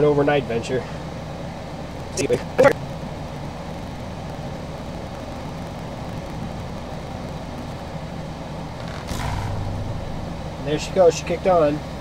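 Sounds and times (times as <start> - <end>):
air conditioner fan whirring: 0.0 - 12.0.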